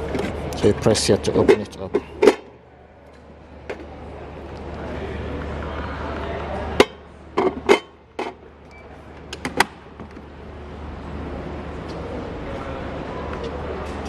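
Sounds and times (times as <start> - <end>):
steady shop hum: 0.0 - 14.0.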